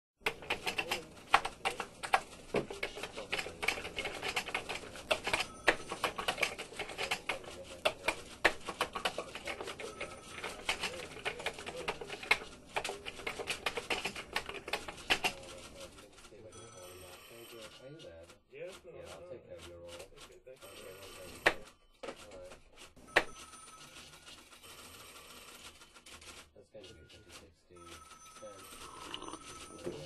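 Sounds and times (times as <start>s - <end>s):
typing on computer keyboard: 0.2s - 17.8s, 19.1s - 26.5s, 27.3s - 30.0s.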